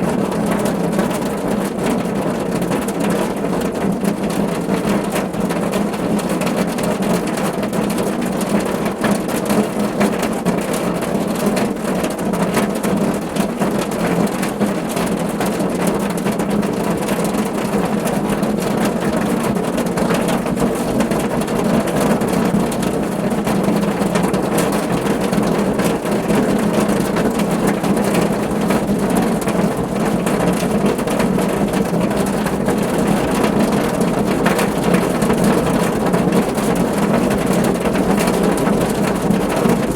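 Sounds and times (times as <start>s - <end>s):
rain drumming on a car roof: 0.0s - 39.9s.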